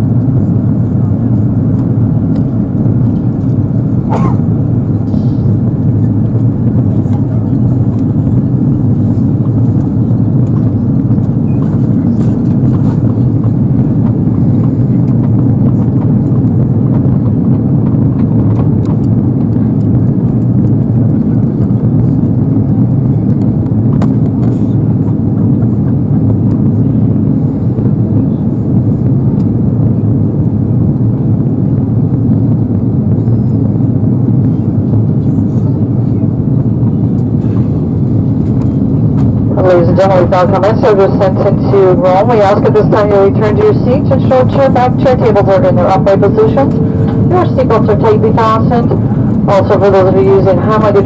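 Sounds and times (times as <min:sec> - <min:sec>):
aircraft cabin engine and airflow noise: 0:00.0 - 0:51.0.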